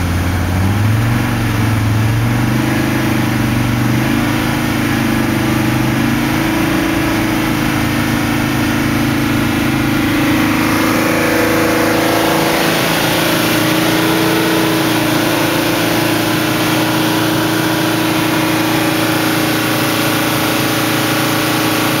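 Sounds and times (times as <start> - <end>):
diesel engine running at high revs: 0.0 - 22.0.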